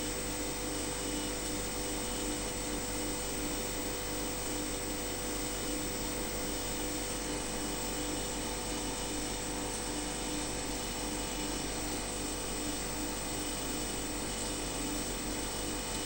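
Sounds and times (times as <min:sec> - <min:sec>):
machine hum with held tones: 0:00.0 - 0:16.0.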